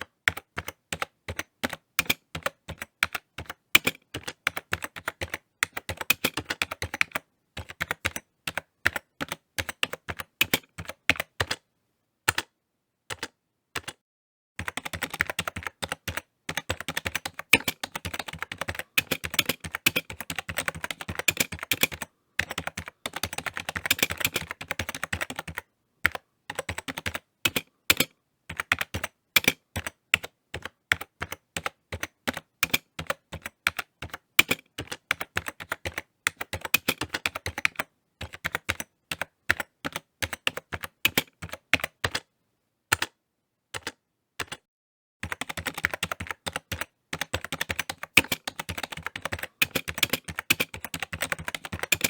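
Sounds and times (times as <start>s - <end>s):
typing on computer keyboard: 0.0s - 11.6s, 12.3s - 12.5s, 13.1s - 14.0s, 14.6s - 42.3s, 42.9s - 52.0s.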